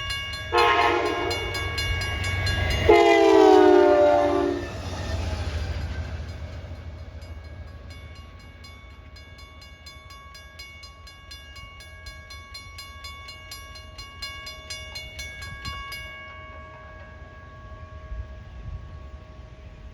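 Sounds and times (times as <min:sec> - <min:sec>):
train rumbling past: 0:00.0 - 0:10.3, 0:13.6 - 0:19.9
crossing signal bell ringing: 0:00.0 - 0:19.8.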